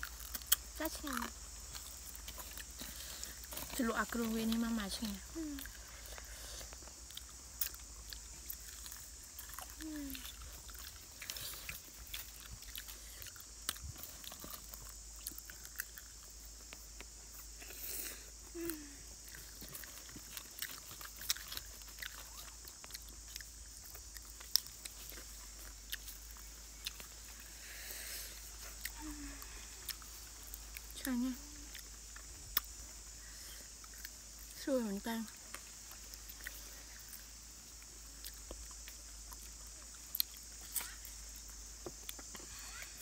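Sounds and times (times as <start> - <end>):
sharp crunches of fried skin: 0.0 - 34.6, 35.4 - 43.0
people chewing crispy chicken: 0.0 - 43.0
steady high hiss: 0.0 - 43.0.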